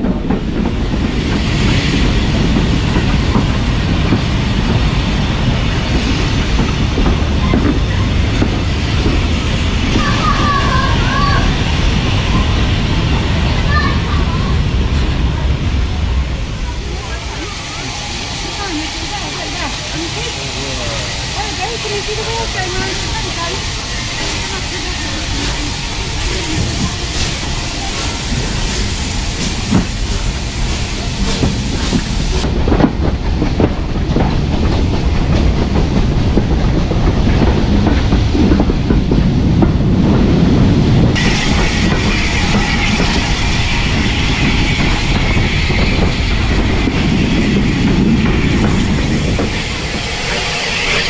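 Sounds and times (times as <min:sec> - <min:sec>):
train wheels clicking over rail joints: 0:00.0 - 0:15.8, 0:16.7 - 0:51.0.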